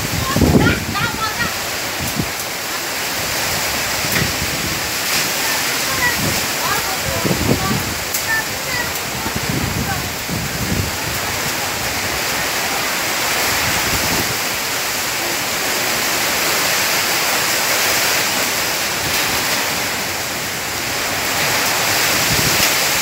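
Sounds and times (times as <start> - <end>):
heavy rain: 0.0 - 23.0
storm wind in trees: 0.0 - 23.0.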